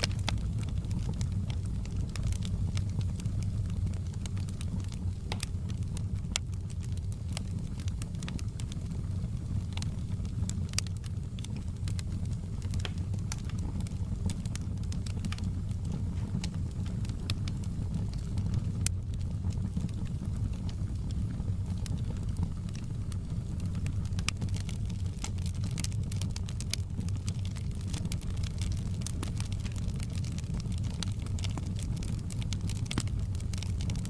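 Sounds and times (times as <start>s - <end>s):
burning wood crackling and popping: 0.0s - 34.0s
campfire flames rumbling: 0.0s - 34.0s.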